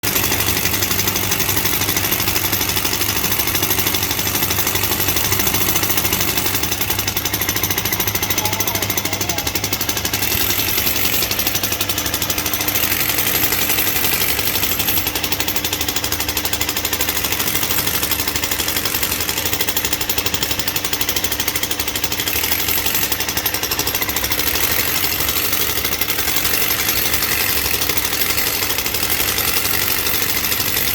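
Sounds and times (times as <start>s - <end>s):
rock drill hammering: 0.0s - 30.9s.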